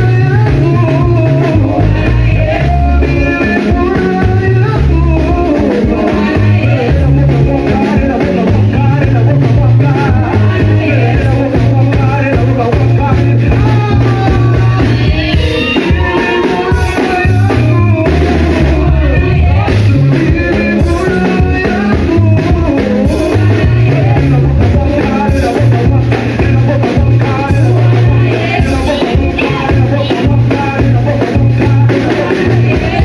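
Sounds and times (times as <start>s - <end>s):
upbeat music with singing: 0.0s - 33.0s.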